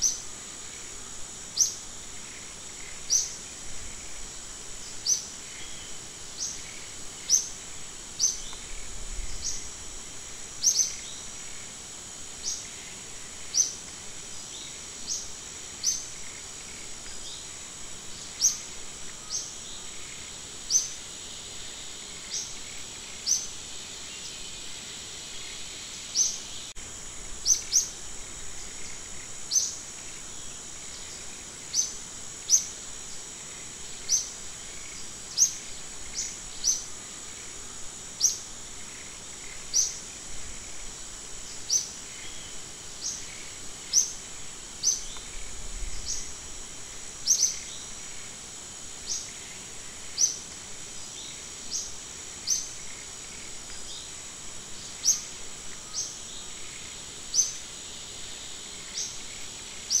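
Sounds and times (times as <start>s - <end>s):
high-pitched insect drone: 0.0s - 60.0s.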